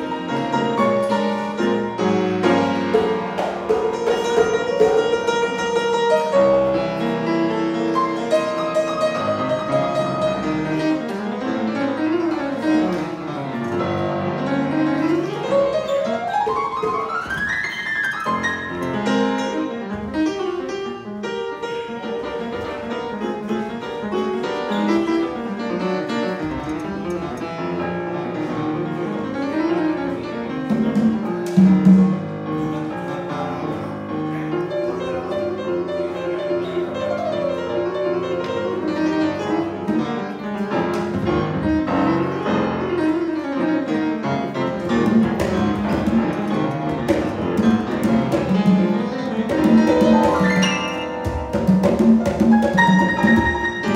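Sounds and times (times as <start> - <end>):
grand piano notes and chords: 0.0 - 53.9.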